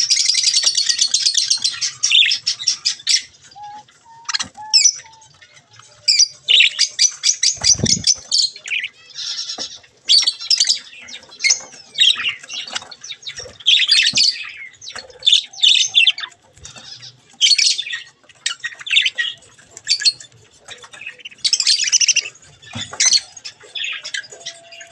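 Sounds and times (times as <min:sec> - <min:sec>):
budgerigars chattering and warbling: 0:00.0 - 0:24.9.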